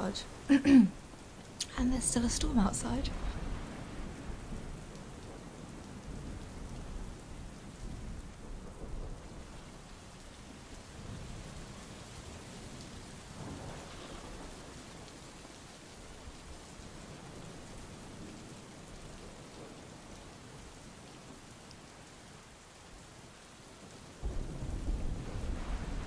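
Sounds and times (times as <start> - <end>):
rain against windows: 0.0 - 26.0.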